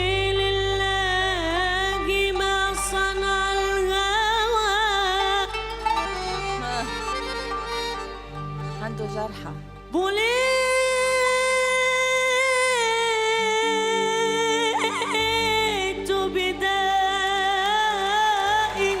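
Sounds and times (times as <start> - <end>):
soft instrumental backing with drone: 0.0 - 19.0.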